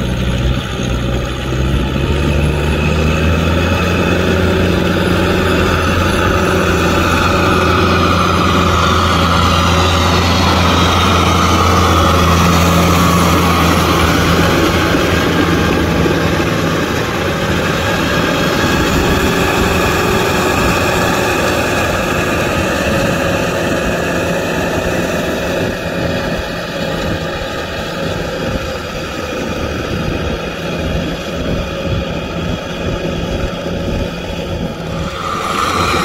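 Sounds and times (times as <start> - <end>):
rotavator churning mud: 0.0 - 36.0
tractor diesel engine running: 0.0 - 36.0.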